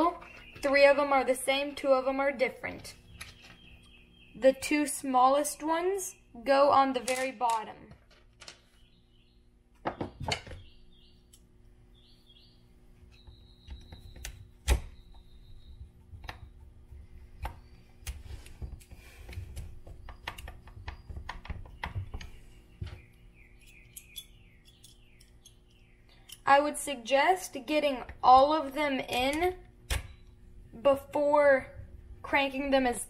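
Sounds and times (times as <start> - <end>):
birds chirping: 0.0 - 6.8, 8.6 - 18.1, 19.8 - 30.9.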